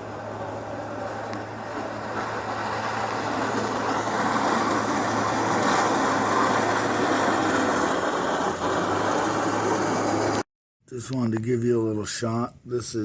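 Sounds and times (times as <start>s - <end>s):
snowplow truck passing: 0.0s - 10.5s.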